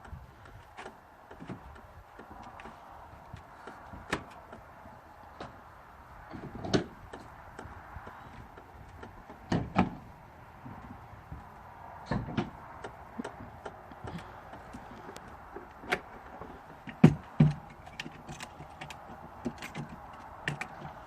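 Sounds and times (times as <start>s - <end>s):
camper panels clicking and knocking: 0.0s - 21.0s.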